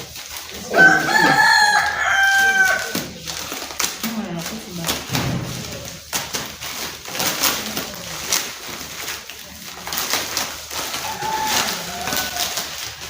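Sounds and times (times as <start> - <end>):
packaging clicks and crackles: 0.0 - 13.0.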